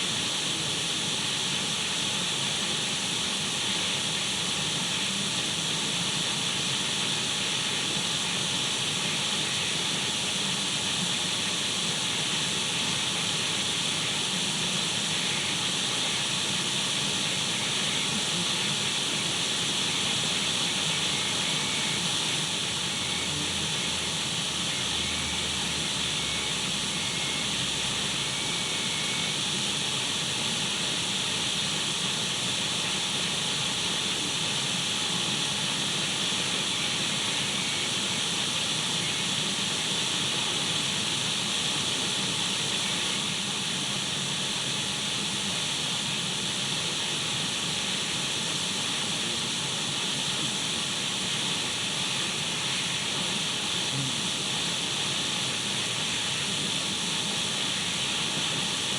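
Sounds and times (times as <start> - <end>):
radio static hiss: 0.0 - 58.9.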